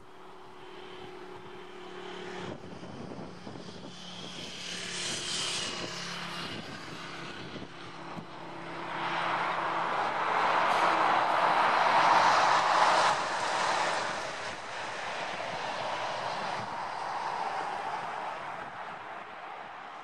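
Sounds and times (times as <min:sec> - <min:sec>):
jet engines with turbine whine: 0:00.0 - 0:20.0.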